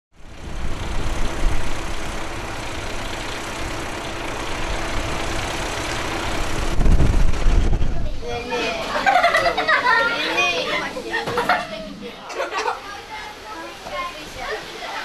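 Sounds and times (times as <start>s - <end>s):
diesel railcar engine rumbling: 0.2s - 15.0s.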